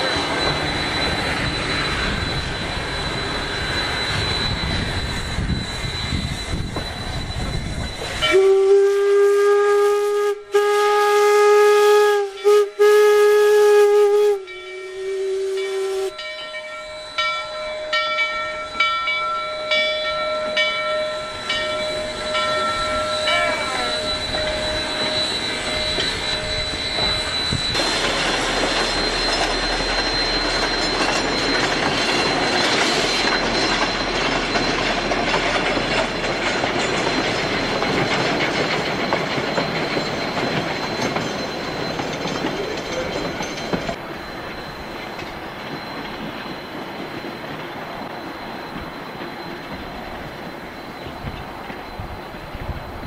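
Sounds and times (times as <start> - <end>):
high-pitched flange squeal: 0.0 - 53.0
train wheels on rails: 0.0 - 53.0.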